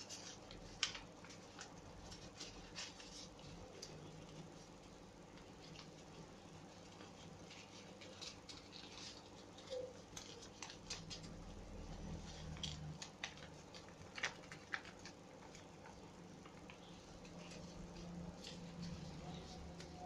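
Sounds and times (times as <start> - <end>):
paper rustling and crinkling: 0.0 - 20.0.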